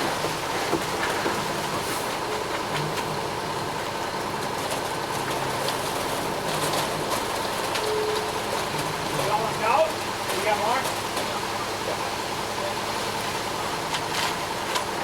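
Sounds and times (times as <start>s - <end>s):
concrete mixer truck rumbling: 0.0s - 15.0s.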